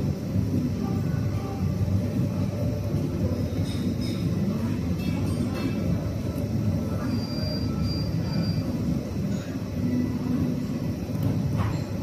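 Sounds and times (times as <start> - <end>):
restaurant background rumble: 0.0 - 12.0.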